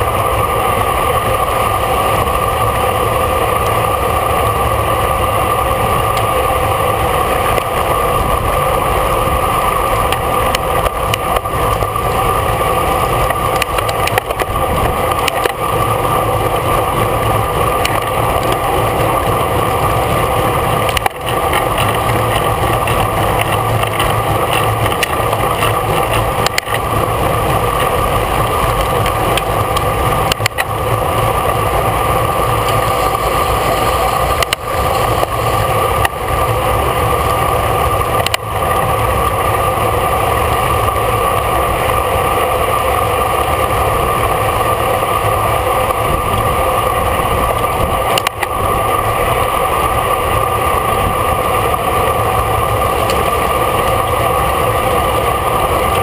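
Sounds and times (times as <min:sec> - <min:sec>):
tyre and road rumble: 0:00.0 - 0:56.0
wind rushing over microphone: 0:00.0 - 0:56.0.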